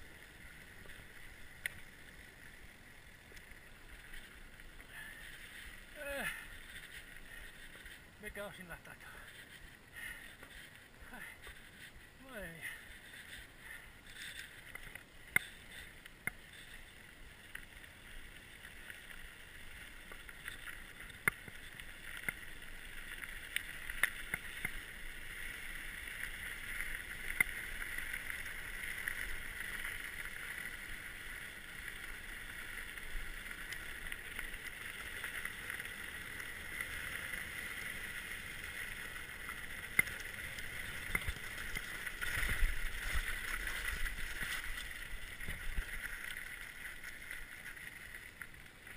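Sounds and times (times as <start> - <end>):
bike rattling: 0.0 - 48.9
bike tyres rolling on gravel: 0.0 - 48.9.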